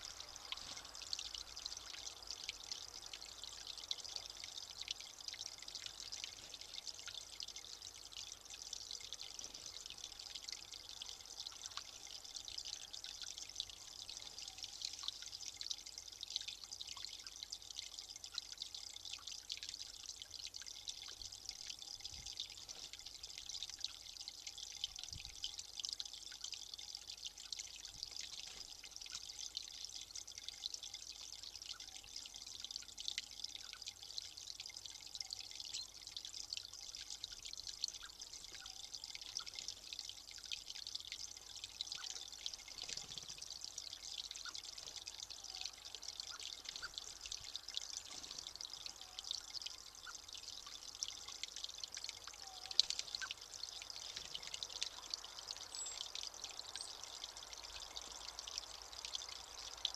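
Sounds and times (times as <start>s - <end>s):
running water trickling: 0.0s - 59.9s.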